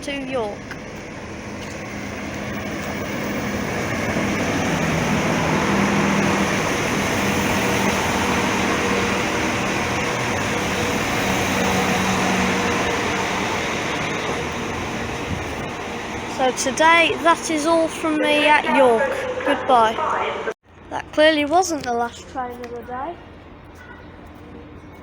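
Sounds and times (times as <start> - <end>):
diesel train engine hum: 0.0 - 21.0
train wheel and rail noise: 0.0 - 25.0.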